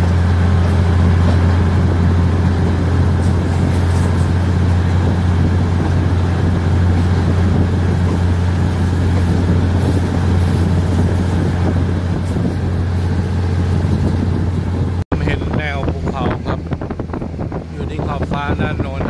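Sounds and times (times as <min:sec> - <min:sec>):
passenger train rumbling along track: 0:00.0 - 0:19.0.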